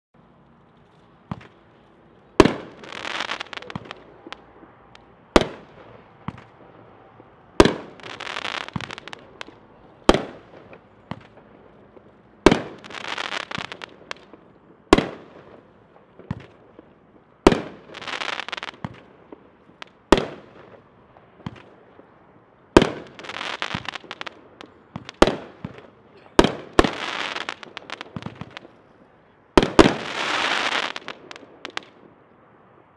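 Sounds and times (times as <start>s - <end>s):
firework crackling: 0.5s - 6.8s, 7.4s - 29.0s, 29.6s - 32.0s
firework shots: 2.3s - 6.8s, 7.6s - 28.9s, 29.6s - 32.2s.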